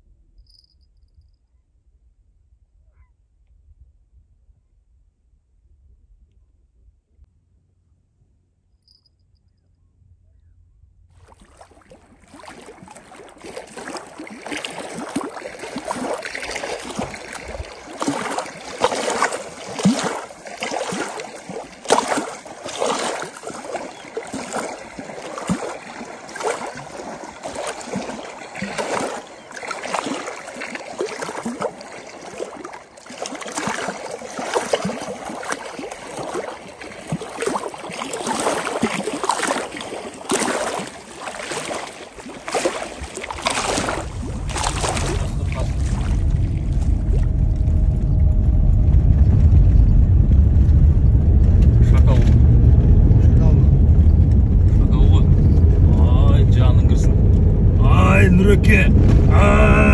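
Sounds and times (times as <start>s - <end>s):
small waves lapping and splashing: 11.2s - 59.9s.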